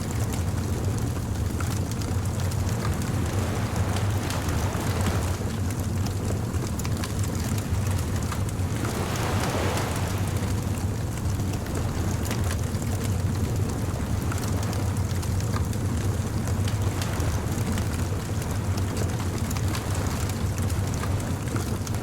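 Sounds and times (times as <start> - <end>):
surf rumbling: 0.0 - 22.0
wave washing in: 0.0 - 22.0.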